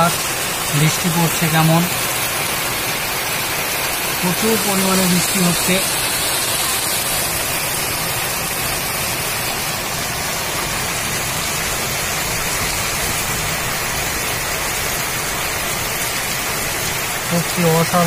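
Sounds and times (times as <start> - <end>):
heavy rain on metal roofs: 0.0 - 18.0.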